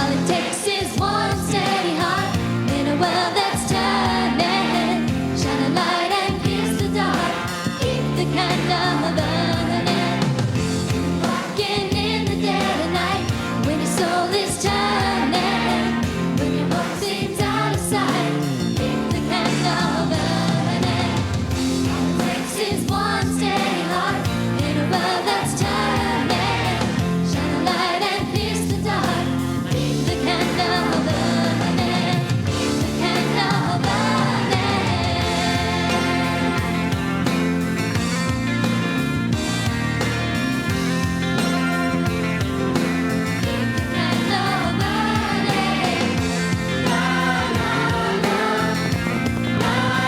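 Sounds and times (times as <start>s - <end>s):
choir singing pop-style song: 0.0s - 38.1s, 41.2s - 50.0s
accompaniment with steady beat: 8.6s - 50.0s.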